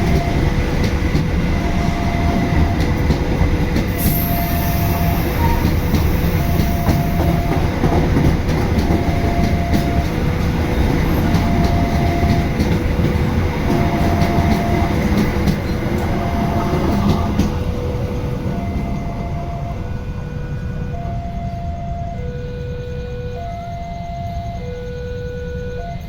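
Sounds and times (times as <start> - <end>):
wheels clicking over rail joints: 0.0 - 21.6
train rumbling past: 0.0 - 26.0.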